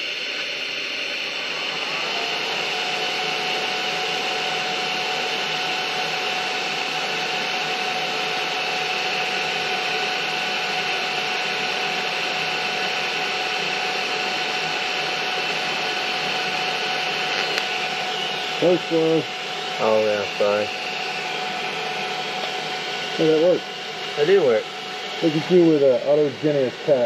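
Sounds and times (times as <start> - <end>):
shop machinery whining: 0.0 - 27.0.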